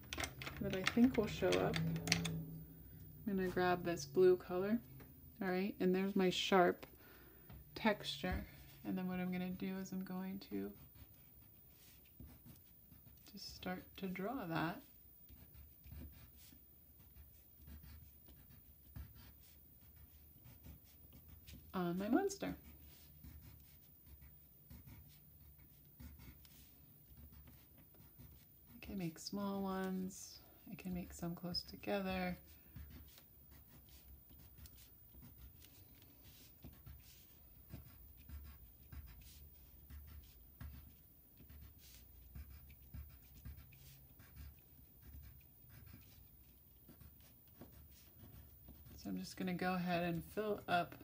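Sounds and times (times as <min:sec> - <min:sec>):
pencil scratching on paper: 0:07.8 - 0:51.0.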